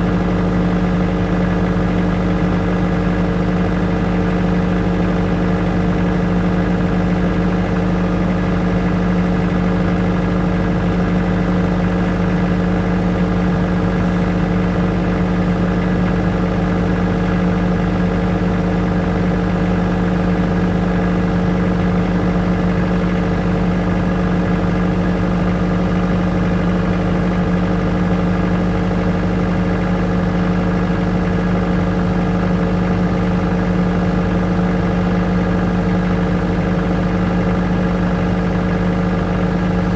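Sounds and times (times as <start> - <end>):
generator engine hum: 0.0 - 39.9.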